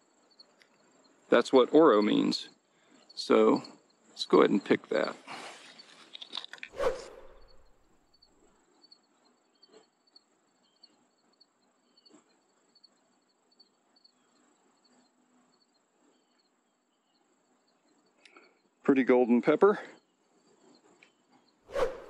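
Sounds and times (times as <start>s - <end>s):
faint crickets chirping: 0.0s - 21.6s.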